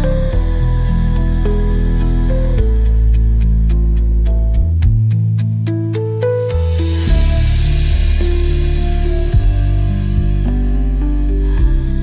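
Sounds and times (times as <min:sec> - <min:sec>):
instrumental new-age music: 0:00.0 - 0:12.0.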